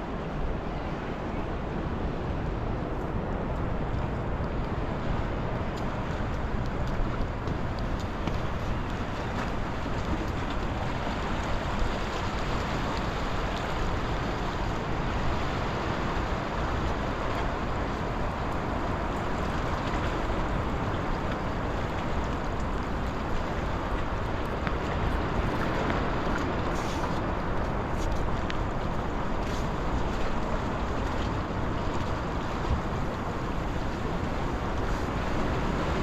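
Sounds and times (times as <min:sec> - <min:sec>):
sea surf: 0:00.0 - 0:36.0
wind over microphone: 0:00.0 - 0:36.0.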